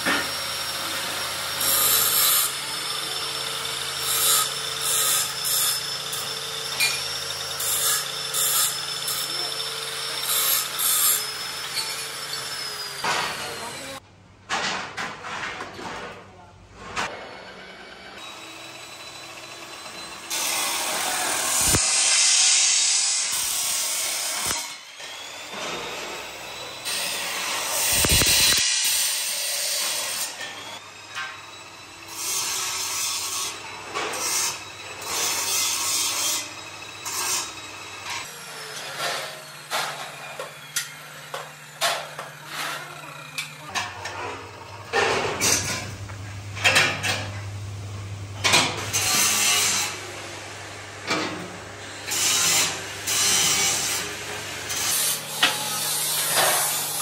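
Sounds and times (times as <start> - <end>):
cut-off saw grinding steel: 0.0 - 14.0, 17.0 - 47.5, 48.4 - 57.0.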